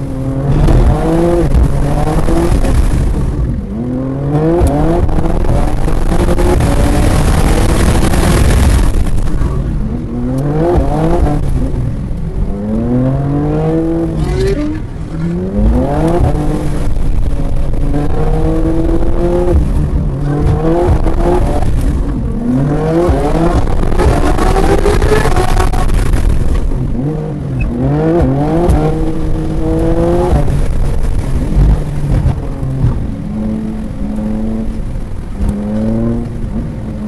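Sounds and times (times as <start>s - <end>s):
race car engines accelerating: 0.0s - 37.0s.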